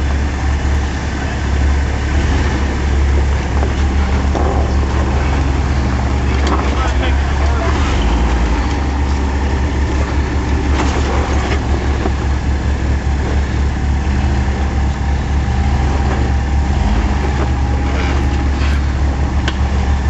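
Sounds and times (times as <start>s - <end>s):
engine running low: 0.0s - 20.0s.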